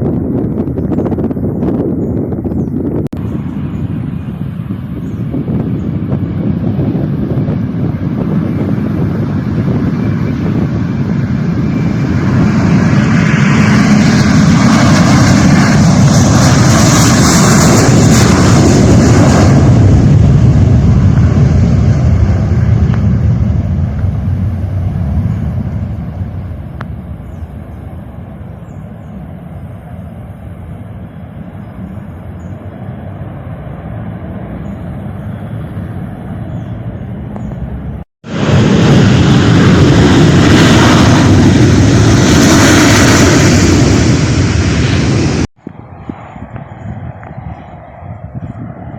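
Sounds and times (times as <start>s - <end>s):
jet airliner passing: 0.0s - 48.9s.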